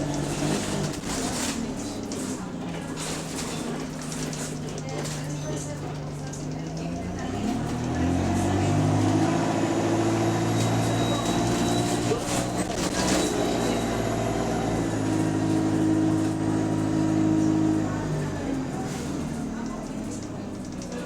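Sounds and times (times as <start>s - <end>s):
bus diesel engine running rough: 0.0s - 21.0s.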